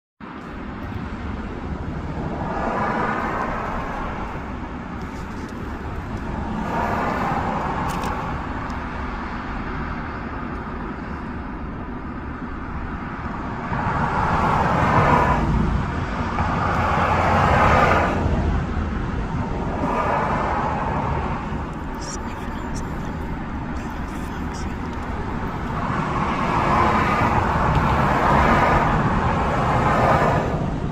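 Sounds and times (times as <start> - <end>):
low traffic rumble: 0.2 - 30.9
vehicles passing: 0.2 - 30.9.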